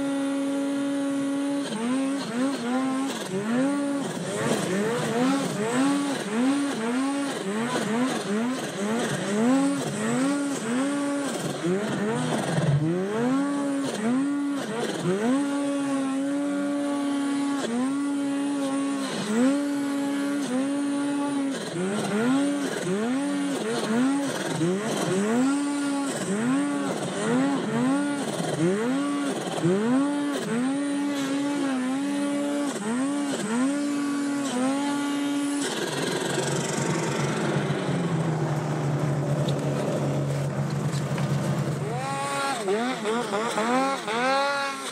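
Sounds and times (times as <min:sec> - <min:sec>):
snowmobile engine revving: 0:00.0 - 0:44.9
snowmobile engine idling: 0:01.6 - 0:44.9.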